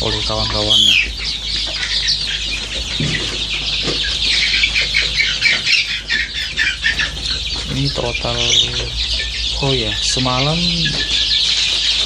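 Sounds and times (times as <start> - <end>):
chicks peeping in chorus: 0.0 - 12.0.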